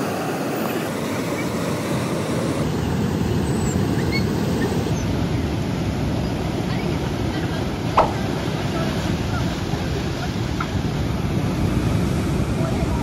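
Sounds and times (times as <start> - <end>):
surf breaking on rocky shore: 0.0 - 13.0.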